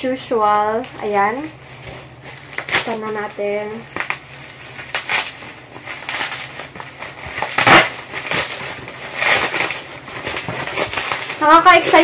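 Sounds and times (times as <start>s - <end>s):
bubble wrap rustling: 0.3s - 12.0s.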